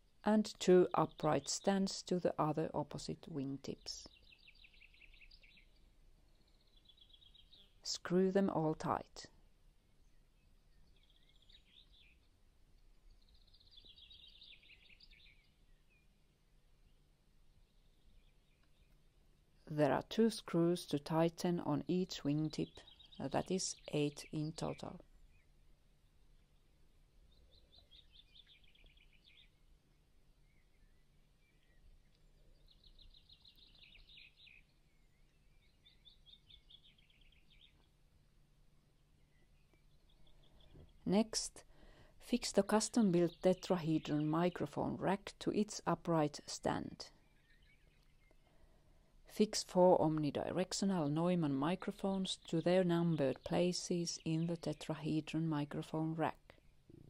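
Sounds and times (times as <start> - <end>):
faint bird song: 0.0 - 57.0
quiet outdoor ambience: 0.0 - 57.0.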